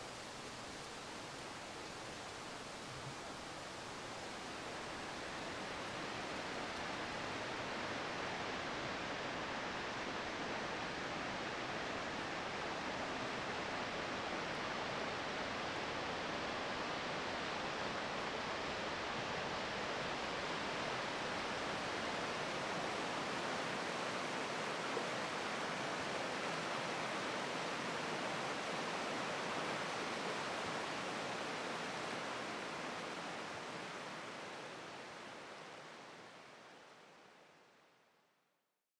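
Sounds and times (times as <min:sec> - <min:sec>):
water rushing: 0:00.0 - 0:37.2.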